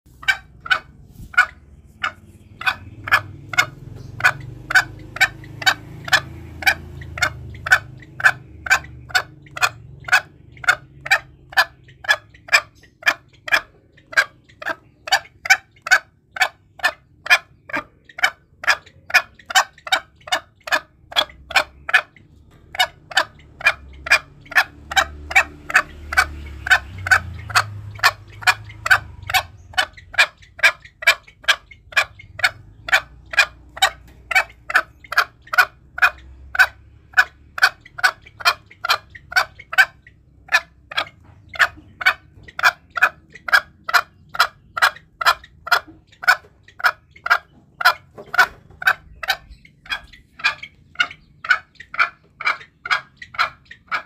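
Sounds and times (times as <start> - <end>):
junglefowl clucking: 0.1 - 54.0.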